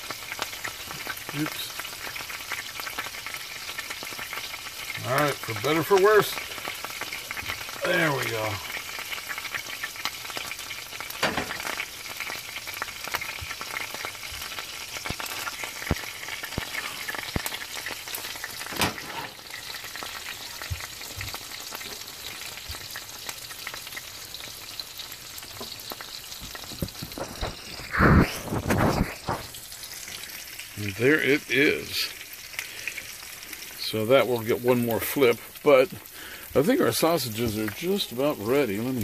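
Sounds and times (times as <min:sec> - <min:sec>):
eggs sizzling in a skillet: 0:00.0 - 0:39.0.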